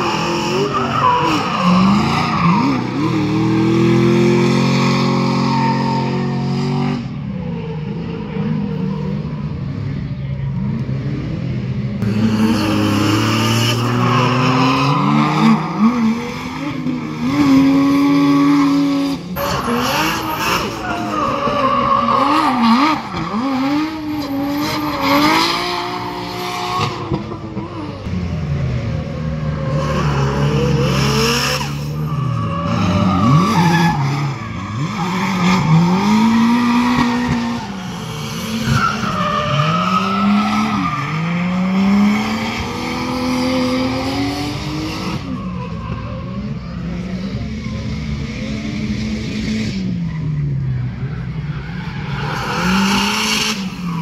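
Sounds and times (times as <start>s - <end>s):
tires squealing and skidding: 0.0s - 9.4s, 12.0s - 28.0s, 29.5s - 48.0s, 49.6s - 54.0s
car engines revving: 0.0s - 54.0s.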